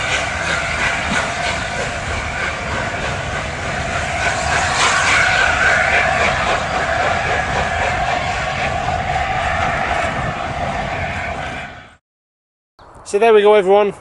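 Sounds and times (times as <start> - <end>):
train wheels rumbling on a bridge: 0.0 - 11.8.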